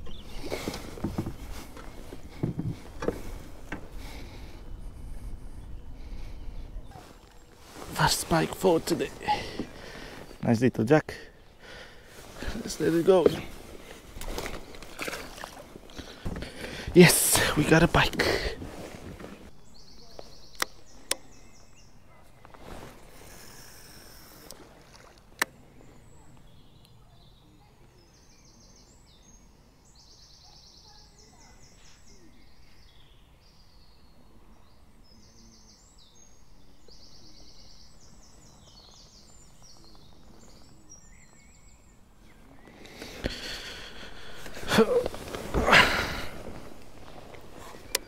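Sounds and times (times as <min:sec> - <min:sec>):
small birds trilling: 0:00.0 - 0:48.0.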